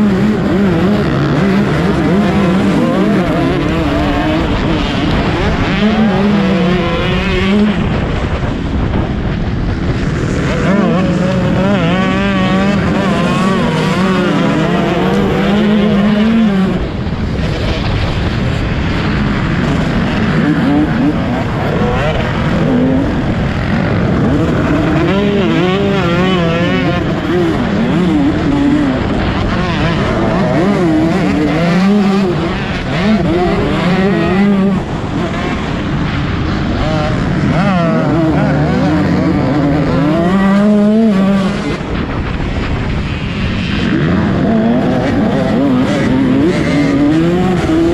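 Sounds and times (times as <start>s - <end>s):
distant engine noise: 0.0s - 47.9s
motocross bike engine revving: 0.0s - 47.9s.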